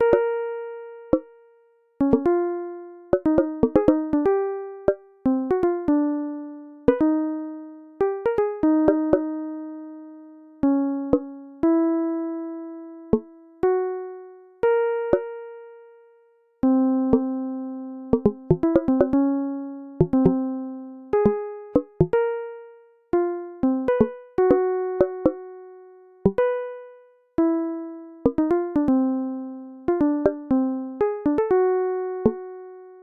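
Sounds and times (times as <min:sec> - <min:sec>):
slow keyboard melody: 0:00.0 - 0:33.0.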